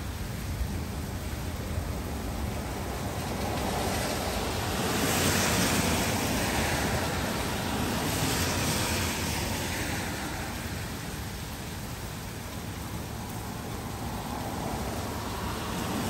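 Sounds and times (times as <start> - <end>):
car tyres hissing on wet street: 0.0 - 16.0
steady rain: 0.0 - 16.0.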